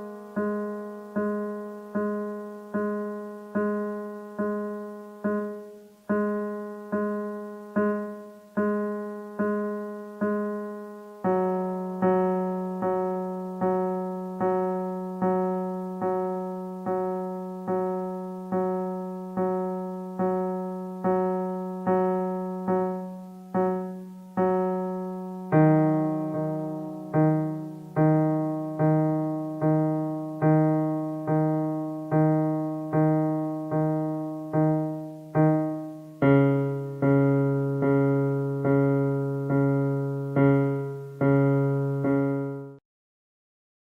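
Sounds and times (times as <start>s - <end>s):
repeated piano note: 0.0s - 42.8s.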